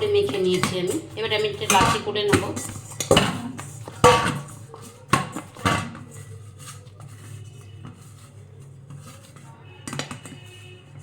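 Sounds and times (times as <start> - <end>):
utensils clattering on metal bowl: 0.0 - 11.0.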